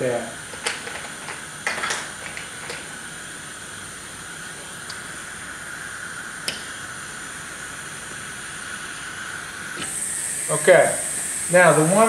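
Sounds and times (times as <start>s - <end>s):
pneumatic thermostat hissing: 0.0s - 12.0s.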